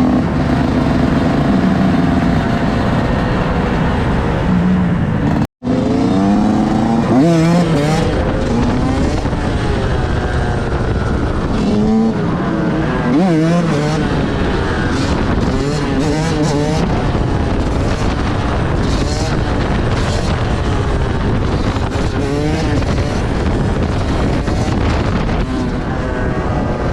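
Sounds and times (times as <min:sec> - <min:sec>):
motorcycle engines revving: 0:00.0 - 0:26.9.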